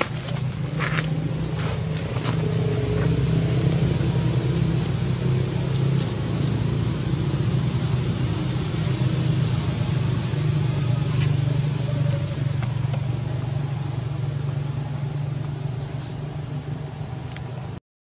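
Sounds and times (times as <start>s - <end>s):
low engine rumble: 0.0s - 17.8s.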